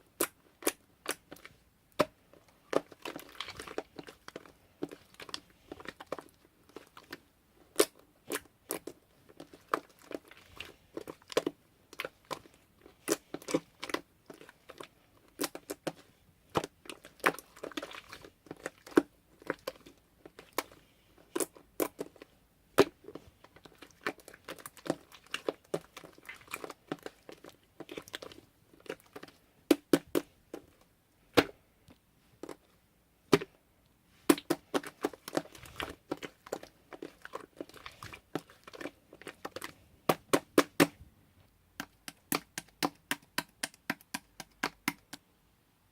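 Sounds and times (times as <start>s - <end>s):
slime popping and crackling: 0.2s - 30.7s, 34.2s - 41.0s, 41.8s - 45.2s.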